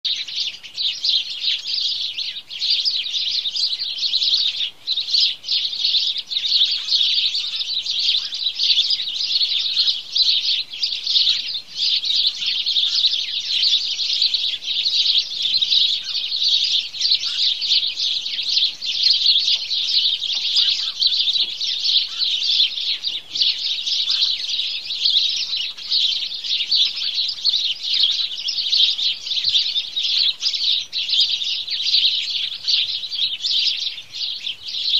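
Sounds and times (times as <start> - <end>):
sparrows chirping: 0.0 - 34.9.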